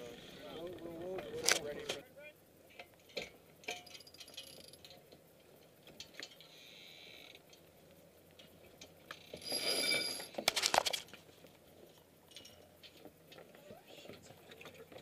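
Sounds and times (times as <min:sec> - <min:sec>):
soft hiss: 0:00.0 - 0:14.8.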